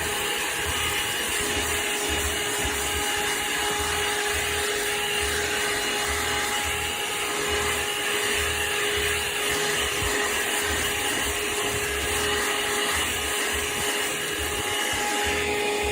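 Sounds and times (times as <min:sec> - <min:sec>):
handheld vacuum motor whine: 0:00.0 - 0:15.9.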